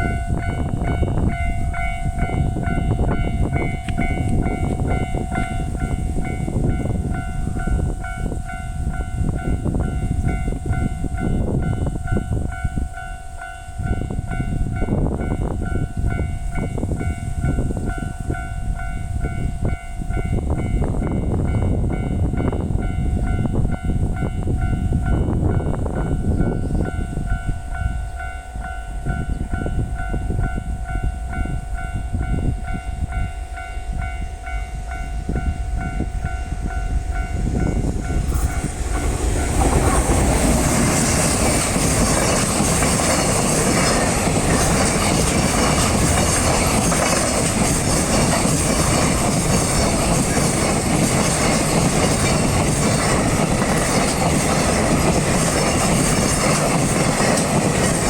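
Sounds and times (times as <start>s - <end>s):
level crossing warning bell: 0.0s - 58.0s
train rail noise: 0.0s - 58.0s.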